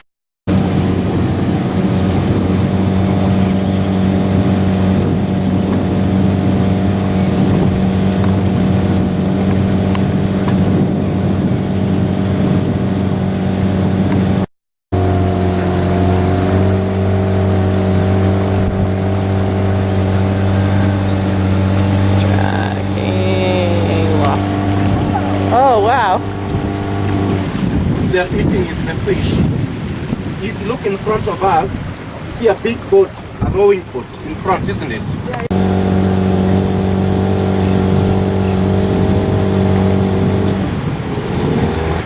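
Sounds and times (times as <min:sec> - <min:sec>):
motorboat engine running: 0:00.0 - 0:42.0.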